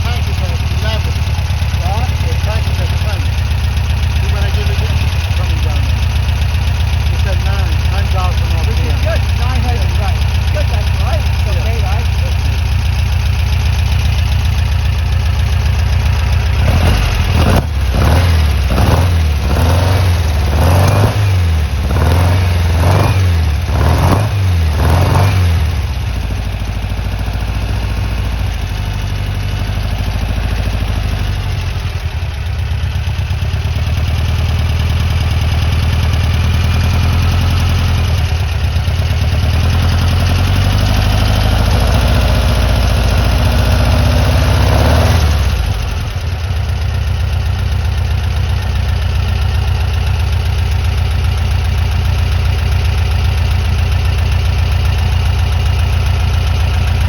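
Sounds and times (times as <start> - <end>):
engine revving and idling: 0.0 - 57.0.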